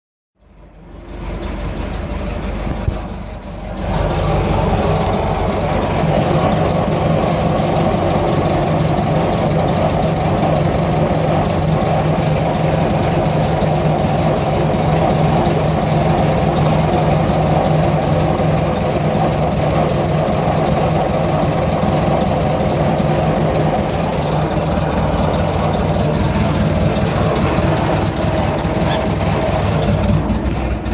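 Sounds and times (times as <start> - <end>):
engine idling: 0.4 - 30.9
fast even ticking: 3.2 - 30.9.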